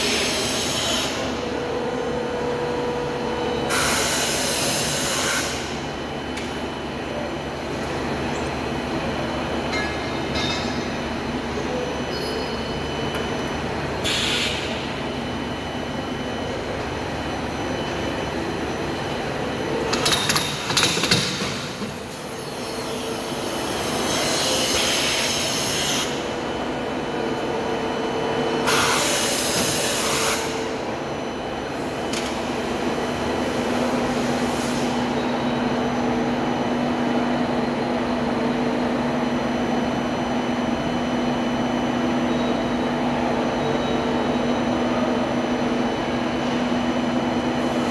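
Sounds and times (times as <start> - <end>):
machine mechanical hum: 0.0 - 47.9.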